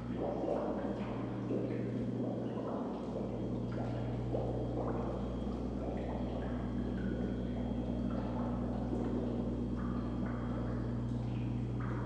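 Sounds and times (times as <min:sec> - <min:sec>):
steady low hum: 0:00.0 - 0:12.0
water gurgling and trickling: 0:00.0 - 0:12.0.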